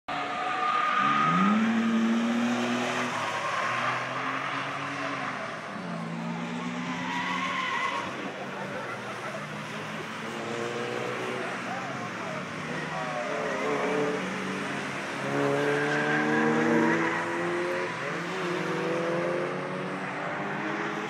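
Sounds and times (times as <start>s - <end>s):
cars passing at speed: 0.1s - 21.0s.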